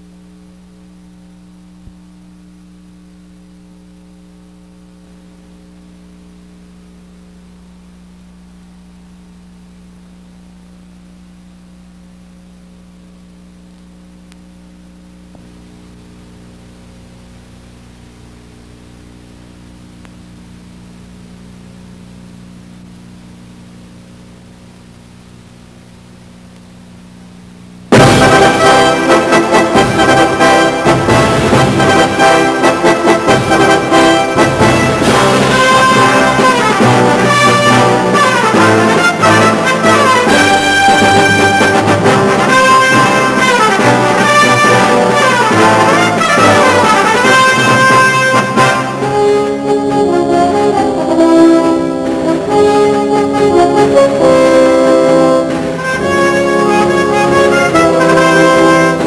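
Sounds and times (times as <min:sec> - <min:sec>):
electrical mains hum: 0:00.0 - 0:59.0
tape hiss: 0:00.0 - 0:59.0.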